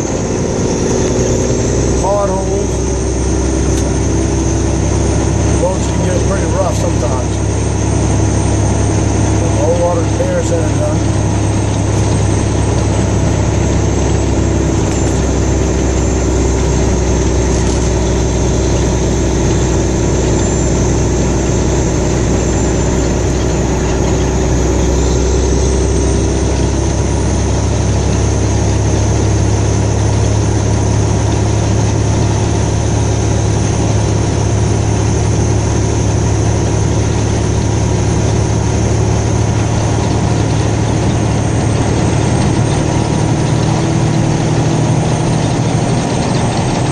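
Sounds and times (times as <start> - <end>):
car engine from inside cabin: 0.0 - 46.9.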